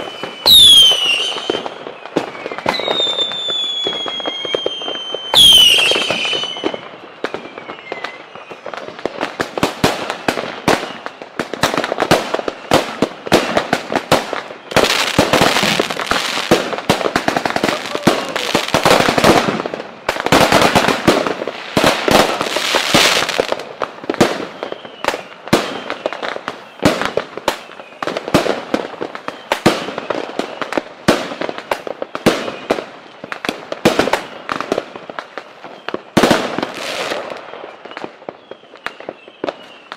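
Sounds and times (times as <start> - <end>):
whistling rocket: 0.0 - 23.6, 24.2 - 39.9
firecracker bangs and crackling: 0.0 - 39.9.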